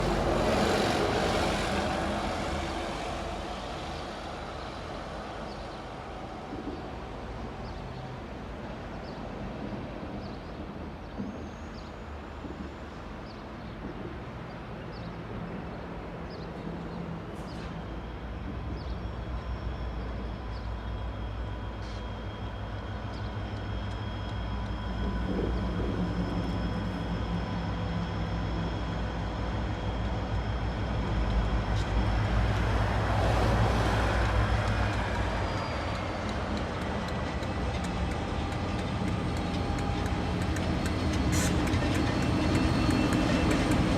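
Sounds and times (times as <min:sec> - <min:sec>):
diesel locomotive rumble: 0:00.0 - 0:09.0, 0:17.0 - 0:43.9
traffic noise: 0:00.0 - 0:19.4, 0:20.0 - 0:43.9.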